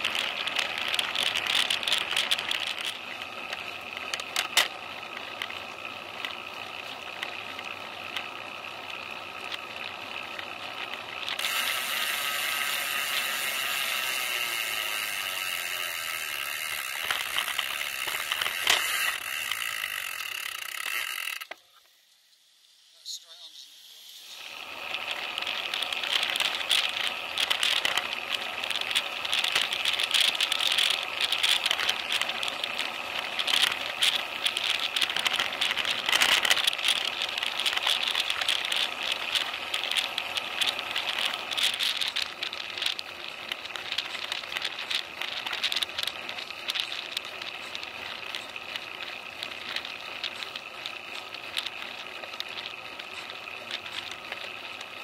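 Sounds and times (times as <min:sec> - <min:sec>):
bicycle rattling clicks: 0:00.0 - 0:21.7, 0:24.3 - 0:55.0.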